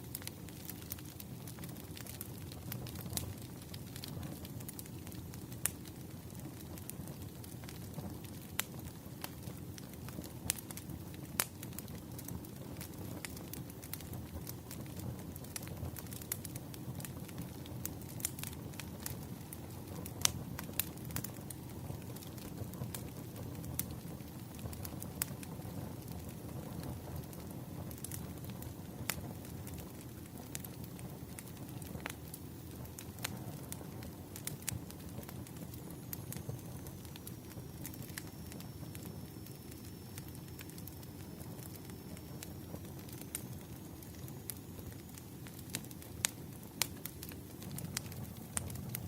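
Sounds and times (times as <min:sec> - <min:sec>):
campfire crackling: 0:00.0 - 0:49.0
fire pops and snaps: 0:00.0 - 0:49.0
low rumble of flame: 0:00.0 - 0:49.0.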